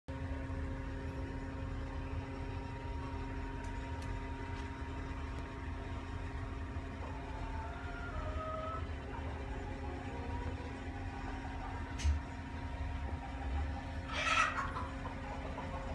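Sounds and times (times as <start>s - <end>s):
steady machine hum: 0.1s - 15.9s.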